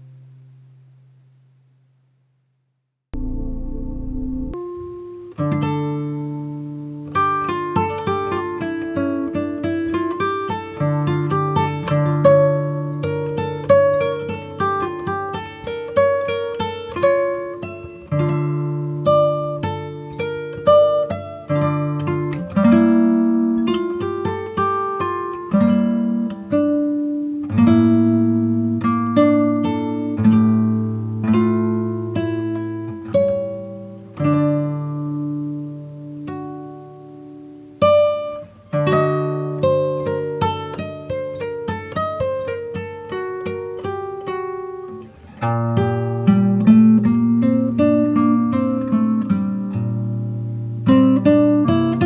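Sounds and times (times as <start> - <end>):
acoustic guitar plucking: 3.2 - 52.0.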